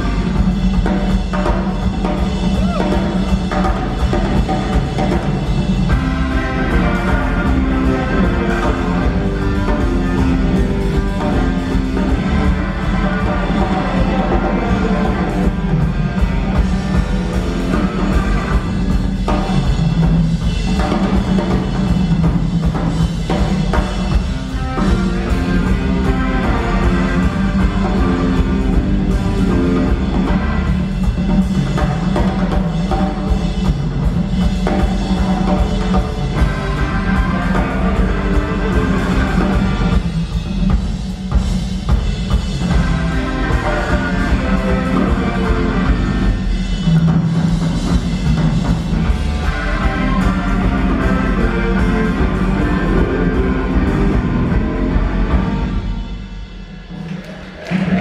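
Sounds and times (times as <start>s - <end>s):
live rock band playing: 0.0s - 57.1s.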